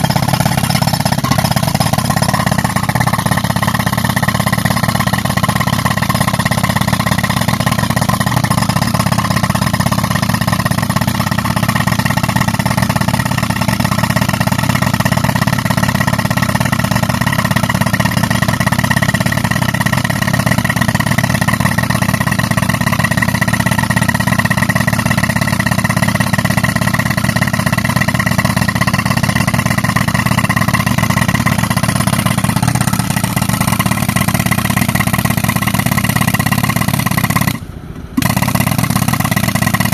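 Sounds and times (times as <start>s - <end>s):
air compressor running: 0.0s - 39.9s
rock breaker hammering rock: 0.0s - 39.9s.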